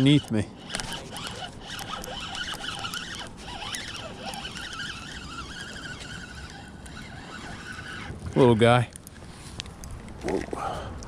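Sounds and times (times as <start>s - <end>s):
fishing reel gear whir: 0.0s - 9.0s.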